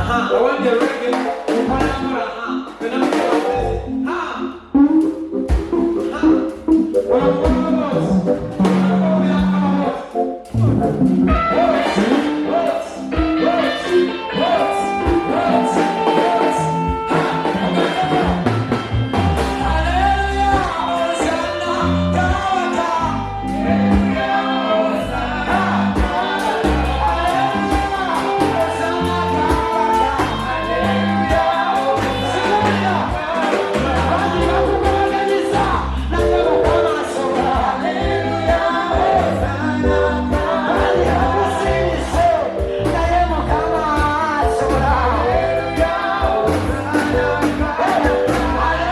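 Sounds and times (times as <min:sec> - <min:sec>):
gospel singing with band: 0:00.0 - 0:48.9
steady bass beat: 0:03.4 - 0:12.1, 0:16.6 - 0:24.4, 0:25.1 - 0:48.9.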